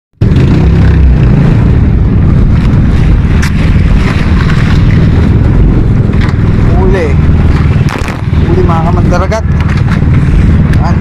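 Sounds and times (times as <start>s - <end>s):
boat engine running: 0.2s - 11.0s
wind buffeting microphone: 0.2s - 11.0s.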